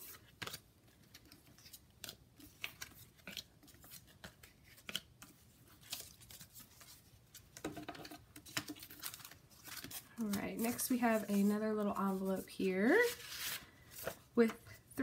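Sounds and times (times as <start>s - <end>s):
paper rustling: 0.0s - 14.8s.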